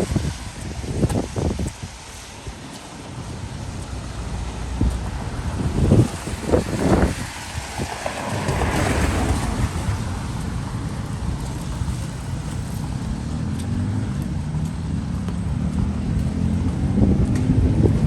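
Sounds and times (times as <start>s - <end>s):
traffic rumble: 0.0s - 18.0s
vehicle engine approaching: 3.5s - 18.0s.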